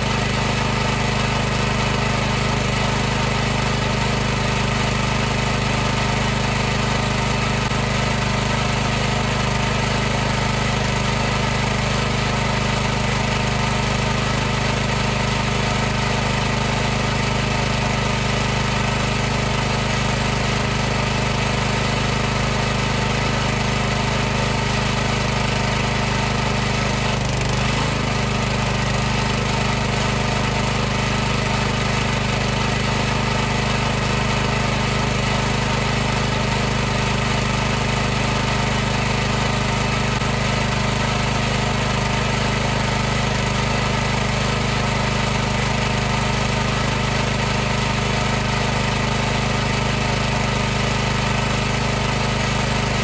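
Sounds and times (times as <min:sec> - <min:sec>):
pressure washer running: 0:00.0 - 0:53.0.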